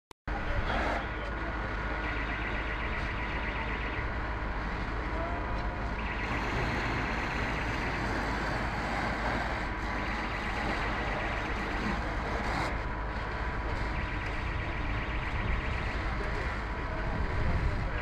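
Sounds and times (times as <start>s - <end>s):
fire engine pump running: 0.3s - 18.0s.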